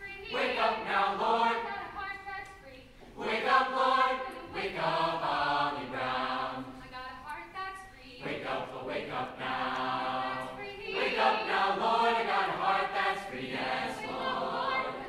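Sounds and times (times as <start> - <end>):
mixed choir singing: 0.0 - 2.4, 3.2 - 7.3, 8.1 - 15.0.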